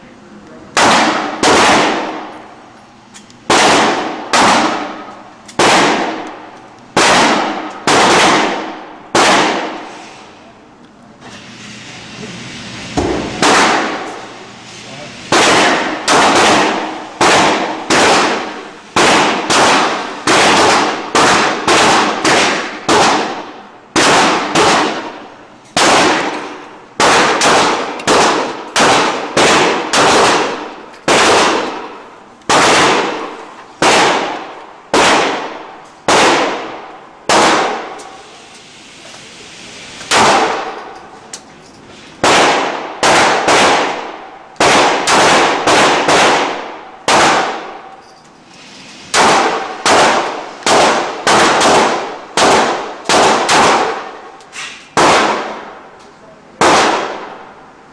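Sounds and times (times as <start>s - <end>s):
gunshots echoing indoors: 0.7s - 2.7s, 3.4s - 10.0s, 13.0s - 14.3s, 15.3s - 38.2s, 40.1s - 41.2s, 42.2s - 48.0s, 49.1s - 55.9s, 56.6s - 57.7s.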